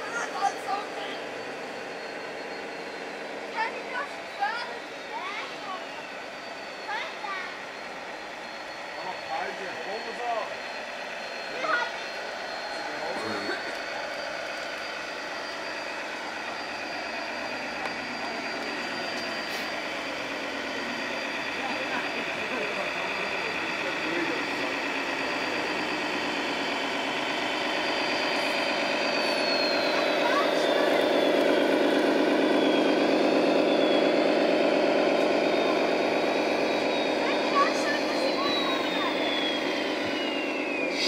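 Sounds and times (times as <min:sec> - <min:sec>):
high constant whine: 0:00.0 - 0:41.0
model trucks mechanical hum: 0:00.0 - 0:41.0.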